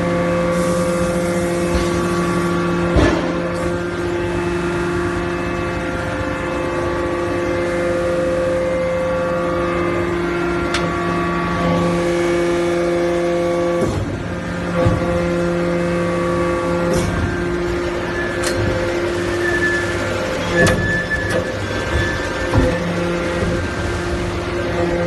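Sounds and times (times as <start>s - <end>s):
hydraulic power unit humming: 0.0s - 25.0s.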